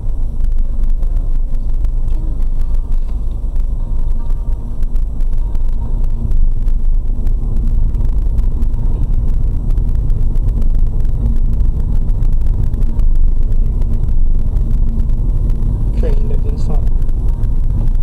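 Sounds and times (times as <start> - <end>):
car engine and tyres rumbling: 0.0 - 18.0
faint steady hum: 0.0 - 18.0.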